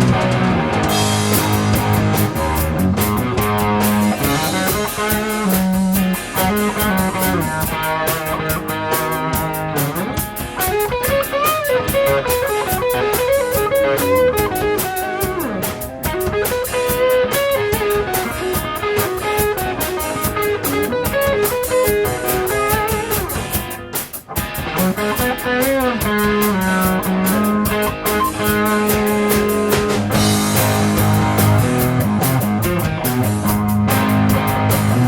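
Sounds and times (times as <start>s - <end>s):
bass guitar: 0.0s - 35.0s
drums with cymbals: 0.0s - 35.0s
overdriven electric guitar lead: 0.0s - 35.0s.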